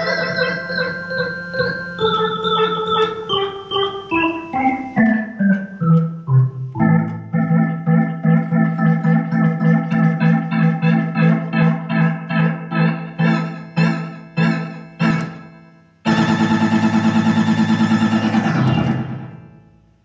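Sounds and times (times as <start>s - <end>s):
electronic organ chords: 0.0s - 20.0s.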